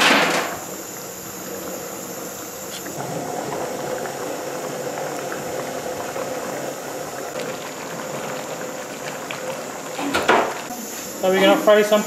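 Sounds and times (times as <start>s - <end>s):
water boiling in a pot: 0.0s - 12.0s.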